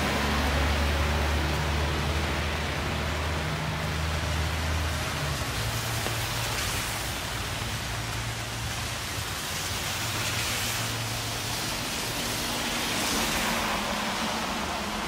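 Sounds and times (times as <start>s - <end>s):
rain on wet street: 0.0s - 15.0s
traffic hissing on wet road: 0.0s - 15.0s.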